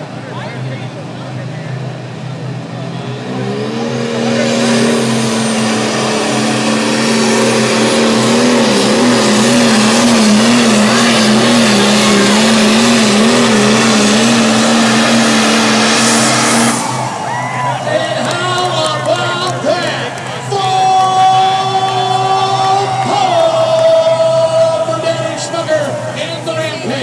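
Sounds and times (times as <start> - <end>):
tractor diesel engine at full throttle: 0.0 - 27.0.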